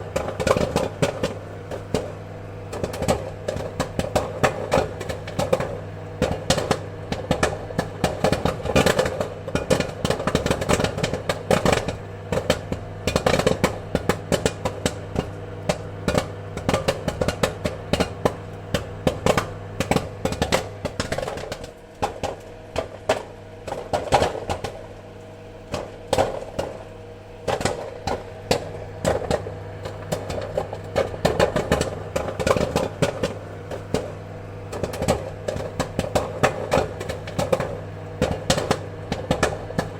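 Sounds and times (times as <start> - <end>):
popcorn popping: 0.0 - 39.9
steady low hum: 0.0 - 39.9.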